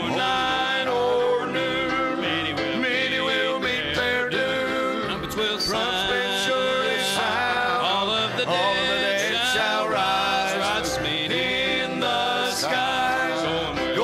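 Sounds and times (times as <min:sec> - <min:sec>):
male vocal trio singing gospel: 0:00.0 - 0:14.0.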